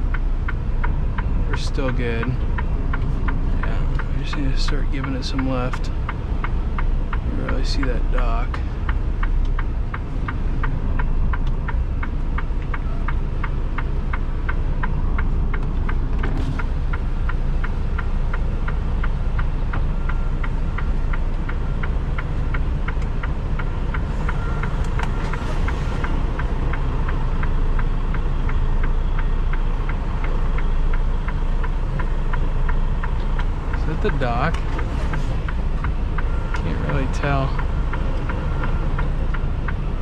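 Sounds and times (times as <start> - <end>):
diesel truck engine running: 0.0 - 40.0
fast steady ticking: 0.0 - 40.0.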